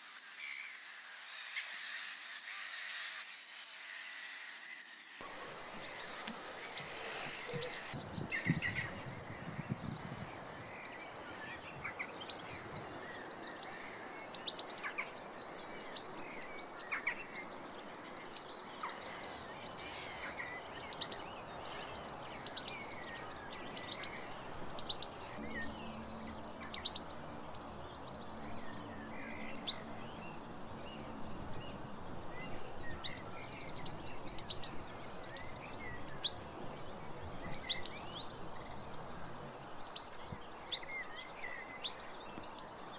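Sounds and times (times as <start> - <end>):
background hiss: 0.0 - 42.9
birds singing and chirping: 5.2 - 42.9.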